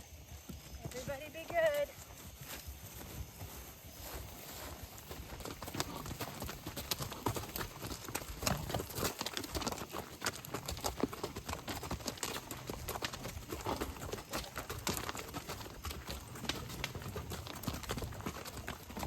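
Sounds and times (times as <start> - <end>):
horse hooves clopping: 0.0 - 19.0.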